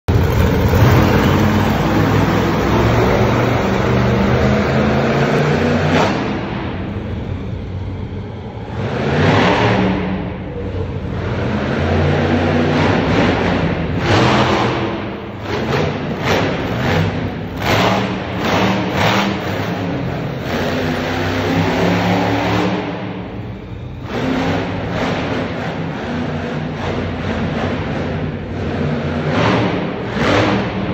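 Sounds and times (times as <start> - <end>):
monster truck engine revving: 0.1 - 30.9.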